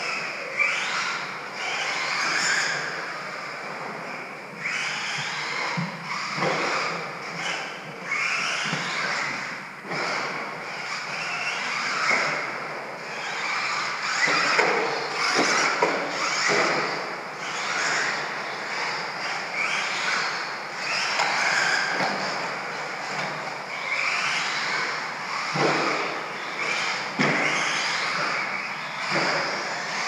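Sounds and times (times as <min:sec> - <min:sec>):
rc truck motors whining: 0:00.0 - 0:30.0.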